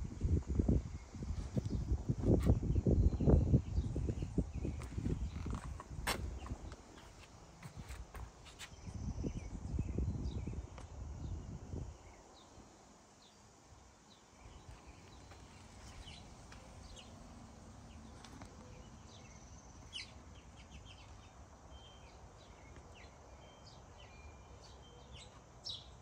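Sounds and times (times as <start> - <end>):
faint birdsong: 0.0 - 26.0.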